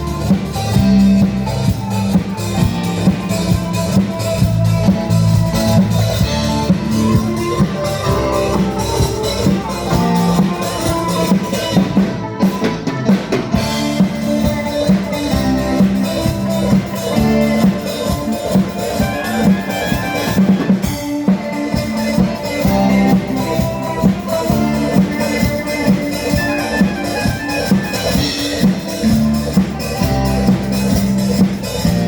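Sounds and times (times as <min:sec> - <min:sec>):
loud music with drum beat: 0:00.0 - 0:32.0.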